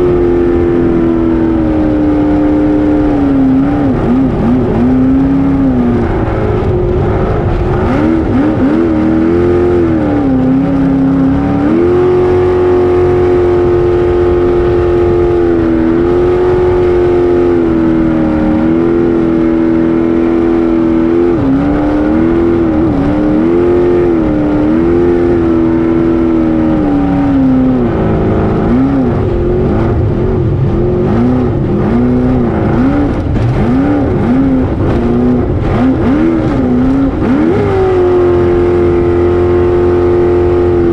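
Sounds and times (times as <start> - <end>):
jet boat engine revving: 0.0 - 40.9.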